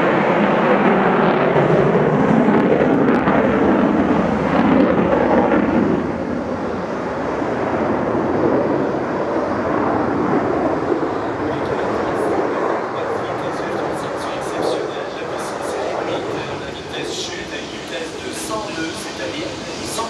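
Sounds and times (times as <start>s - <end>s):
fighter jet flying overhead: 0.0s - 20.0s.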